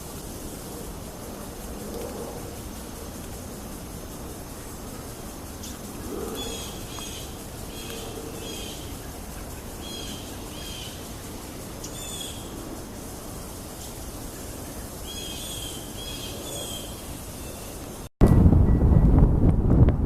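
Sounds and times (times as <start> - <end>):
outdoor background hiss: 0.0 - 18.6.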